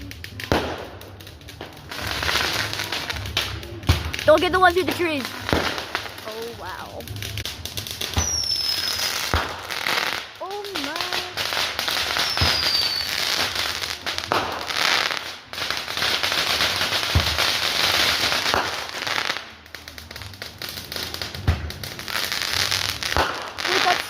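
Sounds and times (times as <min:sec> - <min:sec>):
fireworks booms: 0:00.0 - 0:24.0
fireworks crackling: 0:00.0 - 0:24.0.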